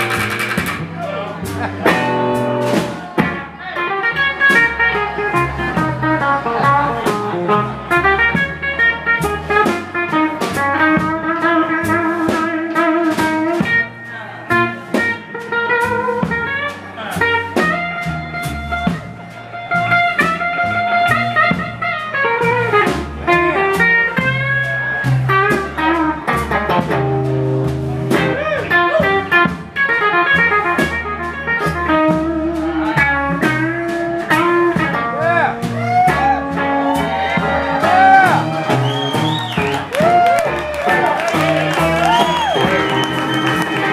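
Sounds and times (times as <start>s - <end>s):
bass guitar: 0.0s - 43.9s
drums: 0.0s - 43.9s
lead electric guitar: 0.0s - 43.9s.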